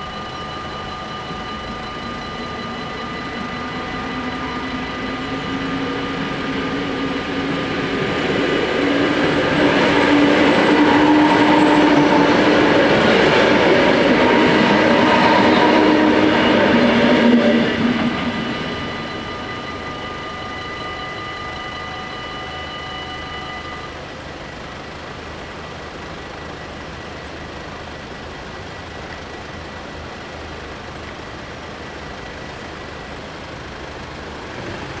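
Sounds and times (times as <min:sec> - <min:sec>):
crossing warning bells ringing: 0:00.0 - 0:34.8
electric train passing: 0:00.0 - 0:35.0.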